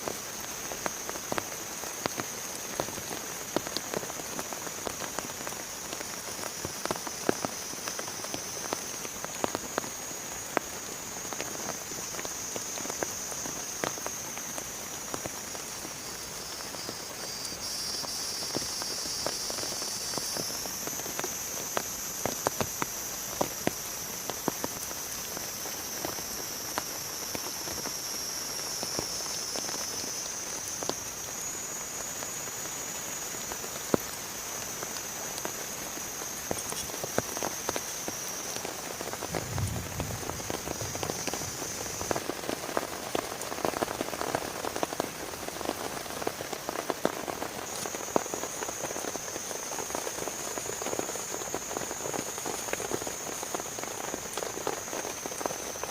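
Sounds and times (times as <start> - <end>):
rain drops tapping on surface: 0.0 - 55.9.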